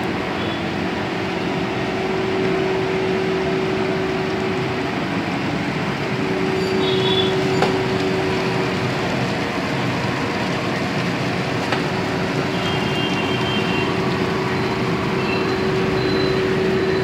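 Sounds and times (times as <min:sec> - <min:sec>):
printing press rumbling: 0:00.0 - 0:17.0
steady hum: 0:00.0 - 0:17.0.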